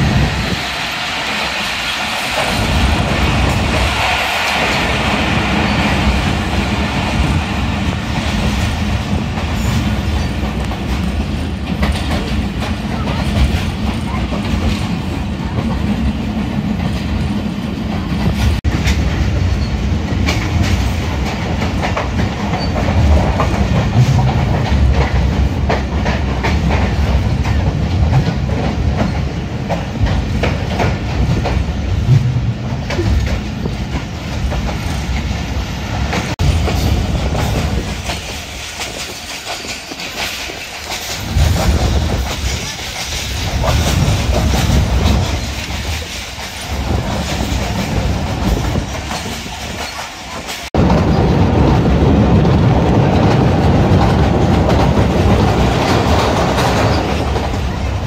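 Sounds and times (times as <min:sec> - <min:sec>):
train rumble inside carriage: 0:00.0 - 0:58.0
wheels clacking over rail joints: 0:00.0 - 0:58.0.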